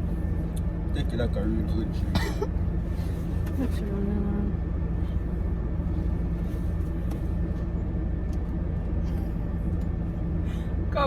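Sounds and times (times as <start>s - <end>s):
constant hum: 0.0s - 11.0s
low rumble: 0.0s - 11.0s.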